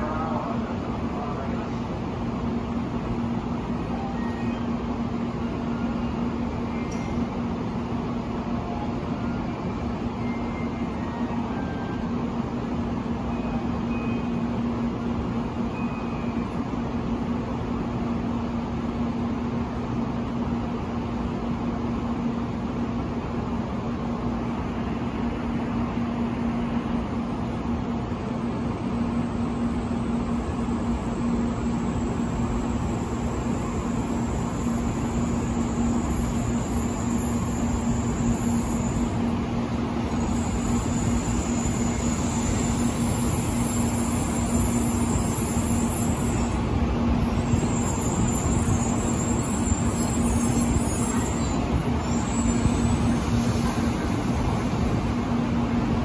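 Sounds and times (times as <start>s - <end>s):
train equipment humming drone: 0.0s - 56.0s.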